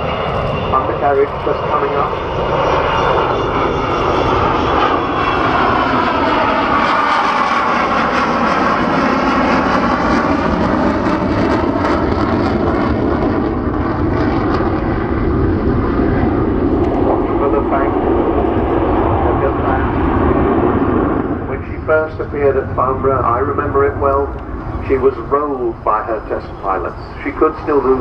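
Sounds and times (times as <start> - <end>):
jet bomber flying past low: 0.0 - 28.0.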